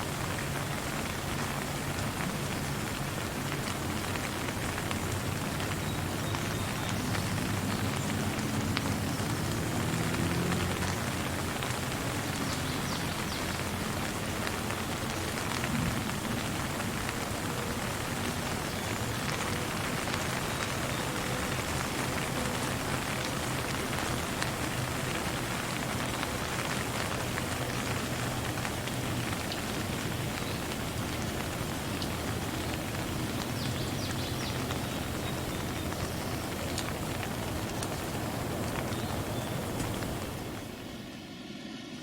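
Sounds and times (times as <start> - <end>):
rain falling: 0.0 - 42.0.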